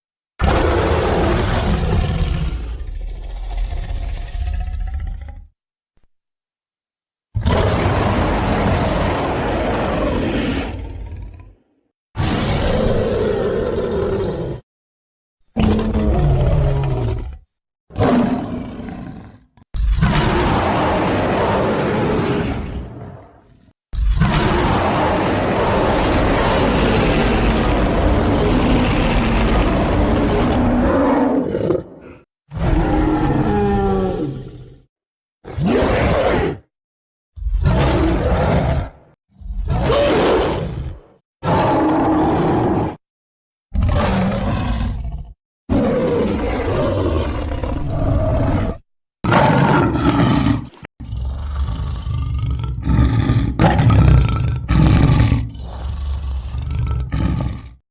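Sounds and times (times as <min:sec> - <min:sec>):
rough animal-like creature call: 0:07.4 - 0:14.6, 0:15.5 - 0:34.9, 0:37.4 - 0:43.0, 0:43.7 - 0:57.8.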